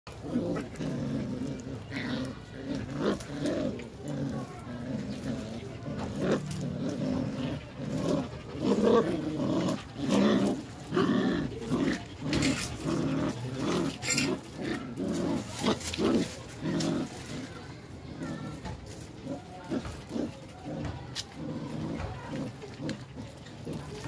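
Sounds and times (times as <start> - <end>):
puppies growling in play: 0.1 - 24.0.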